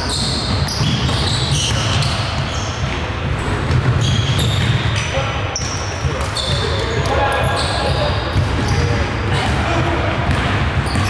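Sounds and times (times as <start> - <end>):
sneaker squeaks: 0.0 - 9.5, 10.3 - 11.0
basketball bouncing on court: 0.0 - 11.0.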